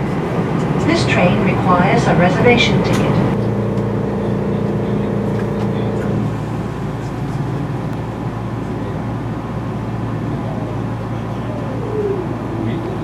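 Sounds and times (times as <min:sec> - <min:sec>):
train running low hum: 0:00.0 - 0:13.0.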